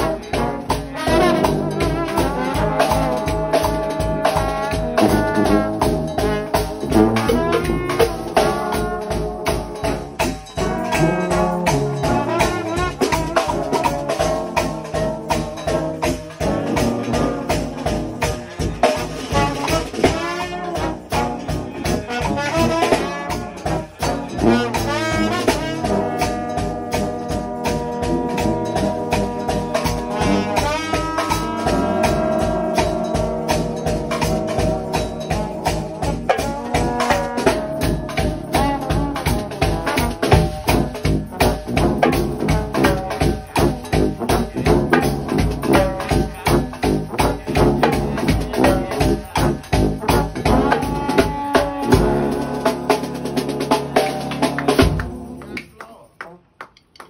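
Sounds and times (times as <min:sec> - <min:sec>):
trombones and trumpets playing: 0:00.0 - 0:55.6
bass drum and drum kit beat: 0:00.0 - 0:55.8.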